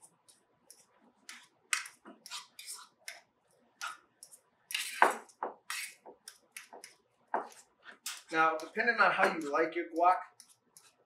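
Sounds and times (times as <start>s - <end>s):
fork mashing avocado in bowl: 0.0s - 11.0s.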